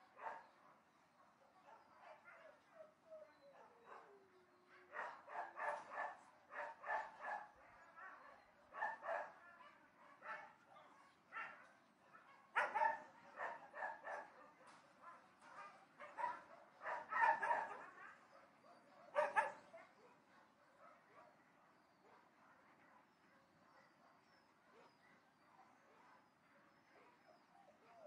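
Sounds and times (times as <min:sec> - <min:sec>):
distant dogs barking: 0:00.0 - 0:28.0.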